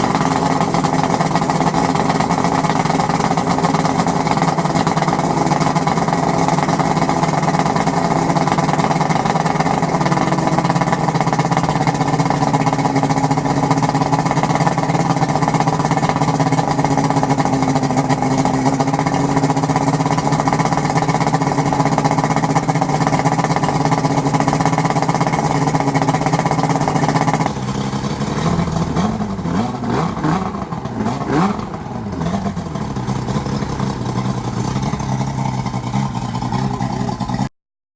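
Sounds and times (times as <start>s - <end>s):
outboard engine running: 0.0s - 37.5s.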